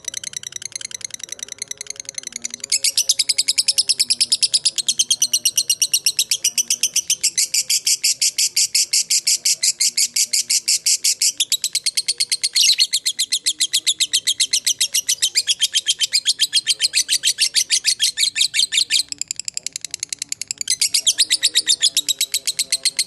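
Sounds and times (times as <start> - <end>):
lovebird chattering: 0.0 - 23.0.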